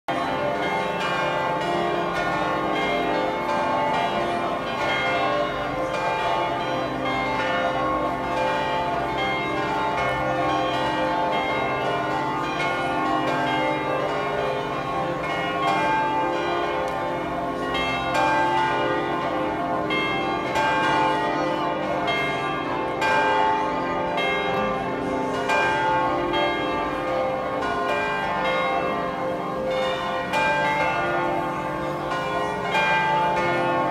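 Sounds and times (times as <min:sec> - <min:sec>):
tower bells pealing: 0:00.1 - 0:33.9.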